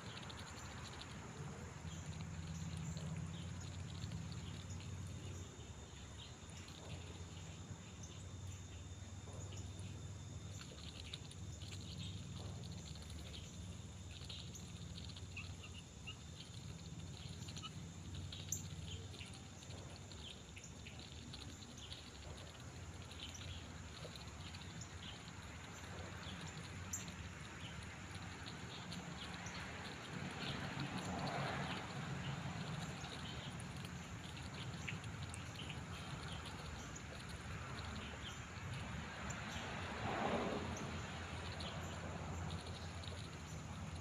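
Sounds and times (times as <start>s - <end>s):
faint animal chirps and ticks: 0.0s - 44.0s
steady low hum: 0.0s - 44.0s.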